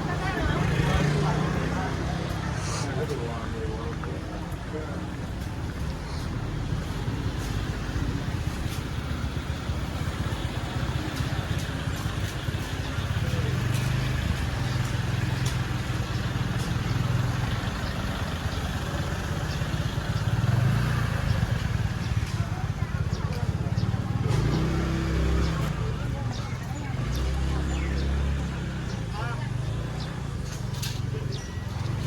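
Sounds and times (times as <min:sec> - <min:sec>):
road vehicle rumble: 0:00.0 - 0:32.0.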